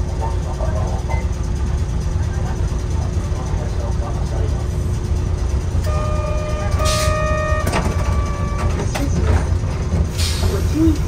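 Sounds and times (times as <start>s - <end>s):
streetcar running rumble: 0.0s - 11.0s.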